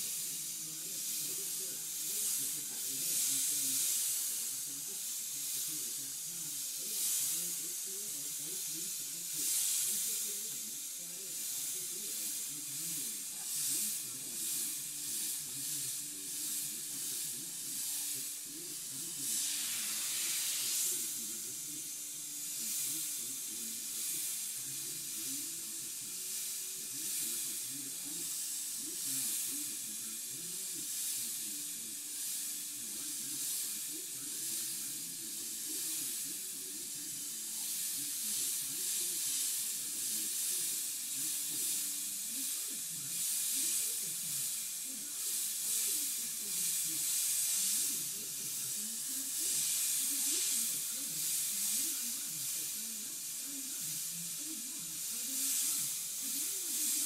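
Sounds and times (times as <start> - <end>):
airbrush hissing: 0.0 - 57.0.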